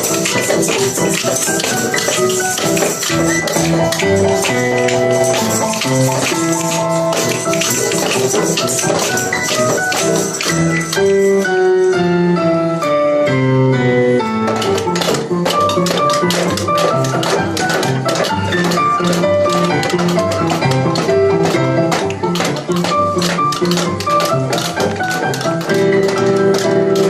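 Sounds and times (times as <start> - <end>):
tambourines and small percussion: 0.0 - 12.0, 14.5 - 27.0.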